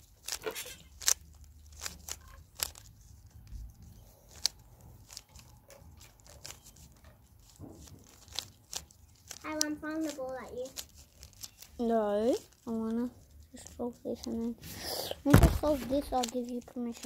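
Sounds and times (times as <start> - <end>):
puzzle cube twisting clicks: 0.0 - 12.6, 13.5 - 17.0.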